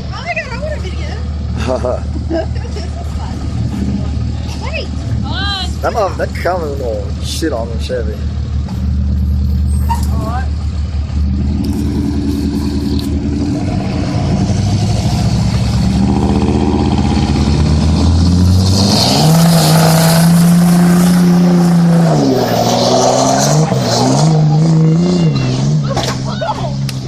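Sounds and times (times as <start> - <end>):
pickup truck engines revving: 0.0 - 27.0.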